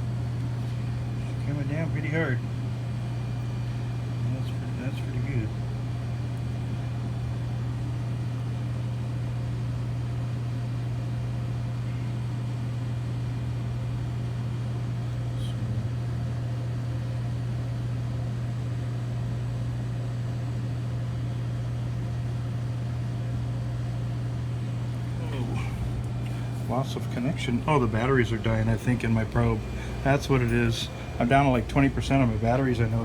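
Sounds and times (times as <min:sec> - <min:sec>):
refrigerator unit humming: 0:00.0 - 0:33.0.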